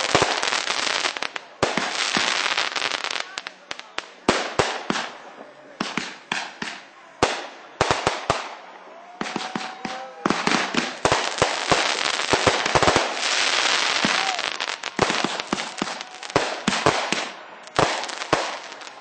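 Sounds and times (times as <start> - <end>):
firework bangs: 0.0 - 19.0
fireworks crackling and popping: 0.0 - 19.0.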